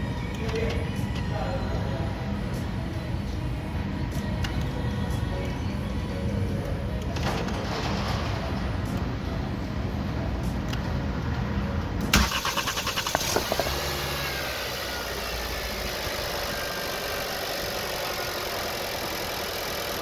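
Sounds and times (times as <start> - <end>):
car engine starting and idling: 0.0 - 20.0.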